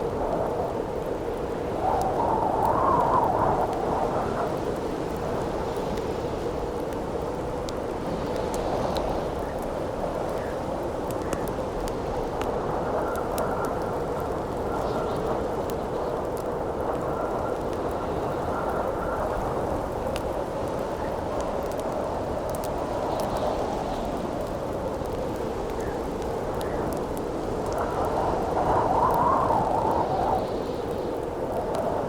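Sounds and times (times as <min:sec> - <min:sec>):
campfire crackling and popping: 0:00.0 - 0:32.0
howling wind: 0:00.0 - 0:32.0.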